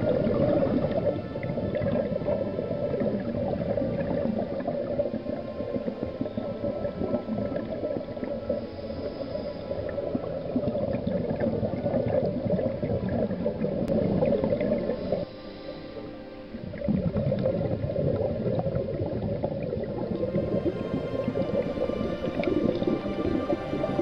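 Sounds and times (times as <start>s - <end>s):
underwater gurgling and bubbling: 0.0s - 24.0s.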